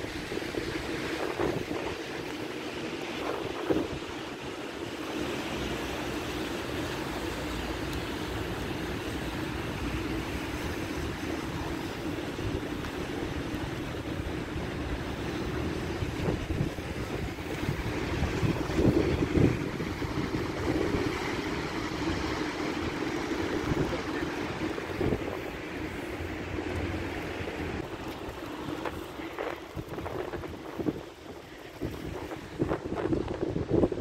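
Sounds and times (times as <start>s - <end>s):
rain on wet street: 0.0s - 34.0s
wind rumbling on microphone: 0.0s - 34.0s.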